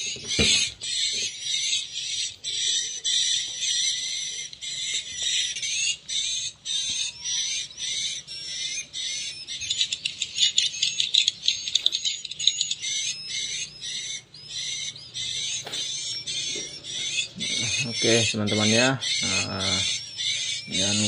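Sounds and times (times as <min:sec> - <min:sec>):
rapid clicking bird calls: 0:00.0 - 0:21.0
recorded bird chirps from speakers: 0:00.0 - 0:21.0.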